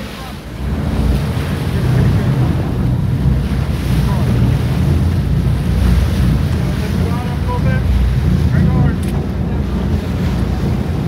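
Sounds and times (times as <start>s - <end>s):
boat engine rumble: 0.0s - 11.0s
water wash: 0.0s - 11.0s
wind buffeting microphone: 0.0s - 11.0s.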